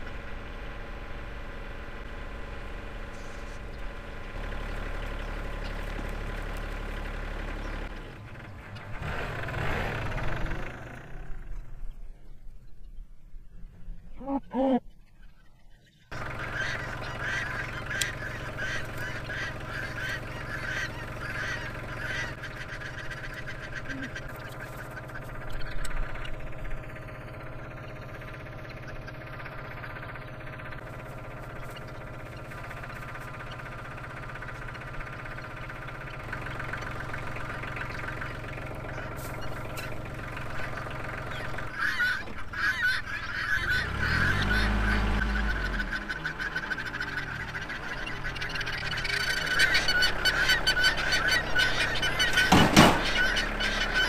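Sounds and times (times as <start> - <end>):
tractor engine running: 0.0 - 13.0, 16.1 - 54.0
geese honking: 2.8 - 10.5, 14.2 - 54.0.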